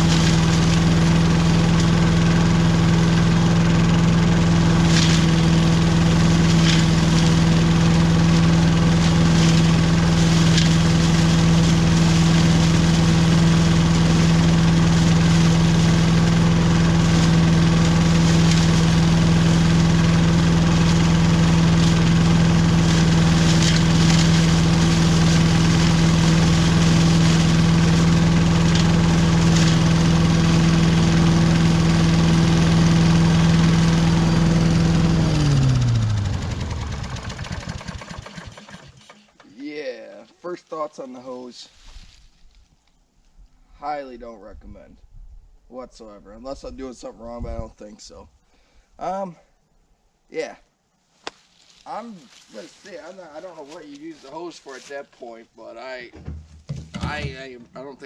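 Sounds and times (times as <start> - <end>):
leaf vacuum engine running: 0.0 - 42.4, 51.3 - 58.0.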